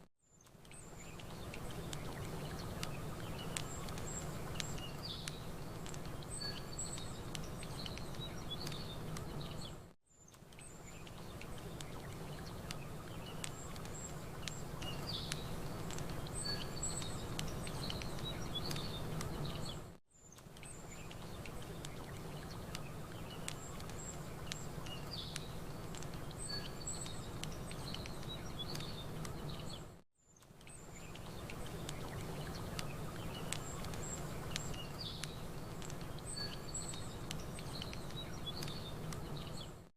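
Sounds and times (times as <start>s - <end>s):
small birds chirping: 0.2s - 39.9s
campfire crackling: 0.4s - 29.9s, 30.5s - 39.8s.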